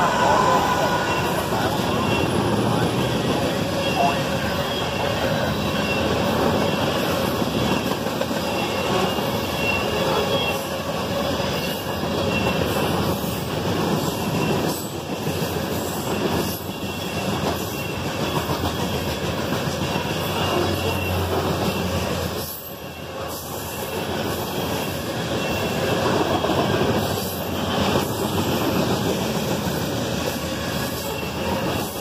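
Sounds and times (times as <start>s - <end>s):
train wheels rumbling and rattling: 0.0s - 32.0s.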